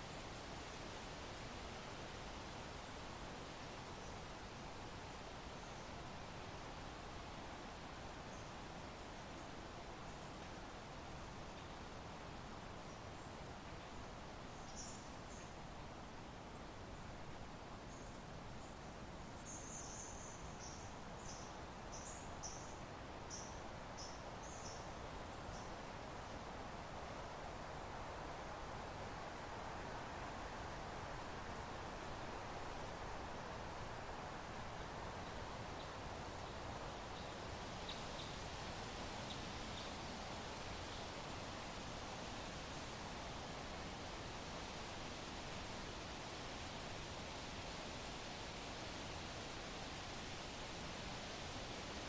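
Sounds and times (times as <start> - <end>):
soft wind hiss: 0.0 - 52.0.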